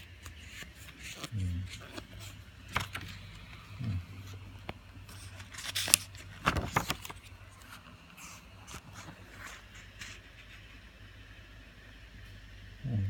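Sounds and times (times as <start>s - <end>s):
book pages rustling: 0.0s - 10.8s.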